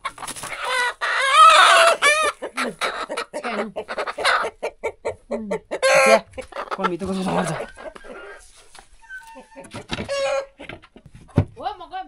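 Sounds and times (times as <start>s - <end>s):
chicken squawking: 0.0s - 10.6s
chicken clucking: 0.0s - 11.4s.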